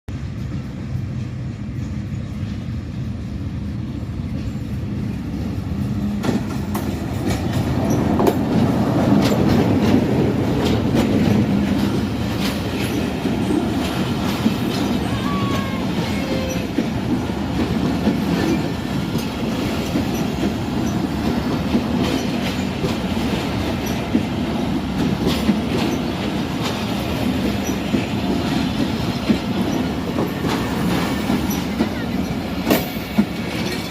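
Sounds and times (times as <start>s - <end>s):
train rumbling on rails: 0.1s - 33.9s
wheels clacking over rail joints: 4.3s - 33.9s.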